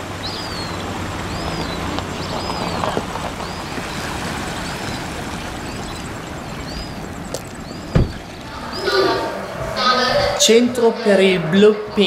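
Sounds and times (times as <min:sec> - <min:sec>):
outdoor rush: 0:00.0 - 0:12.0
bird chirping: 0:00.2 - 0:10.5.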